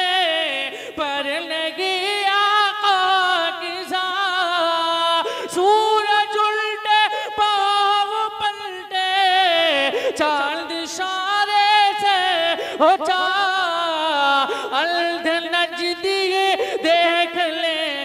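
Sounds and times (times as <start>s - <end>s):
man singing in a high voice: 0.0s - 18.0s.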